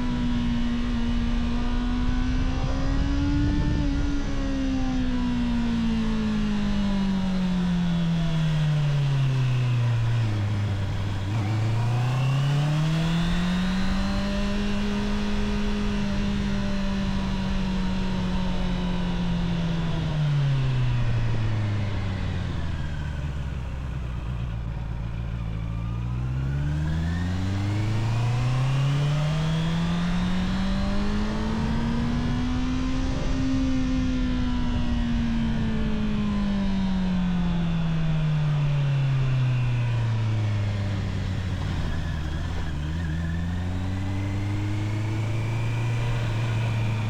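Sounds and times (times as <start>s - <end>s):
motorcycle engine under way: 0.0s - 47.0s.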